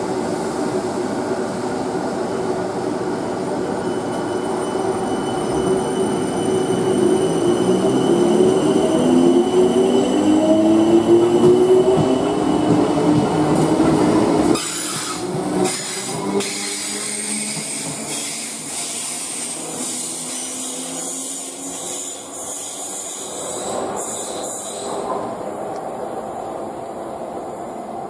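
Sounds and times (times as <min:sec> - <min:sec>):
train coaches rumbling: 0:00.0 - 0:28.0.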